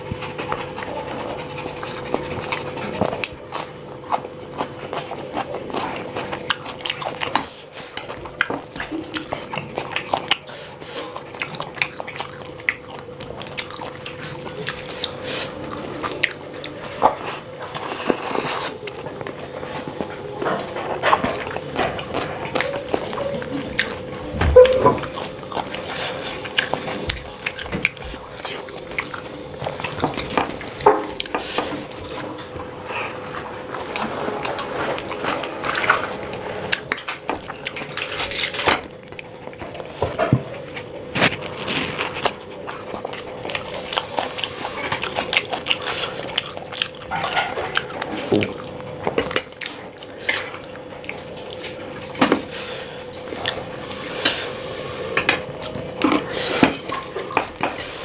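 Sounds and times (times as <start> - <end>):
chewing and mouth sounds: 0.0 - 58.0.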